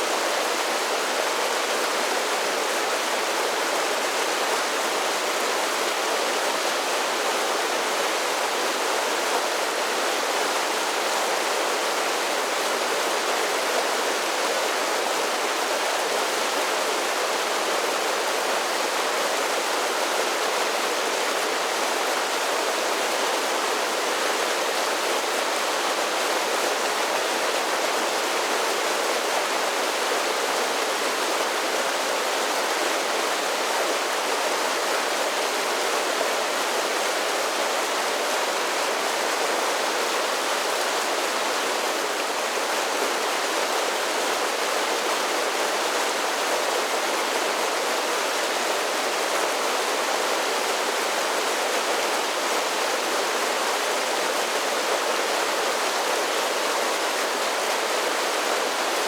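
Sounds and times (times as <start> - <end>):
creek rushing over small falls: 0.0 - 59.0.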